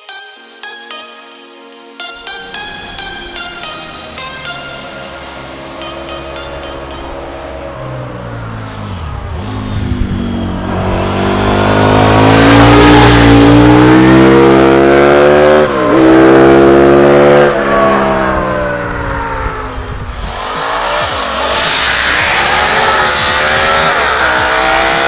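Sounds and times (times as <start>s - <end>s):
quad engine accelerating hard: 2.2s - 25.0s.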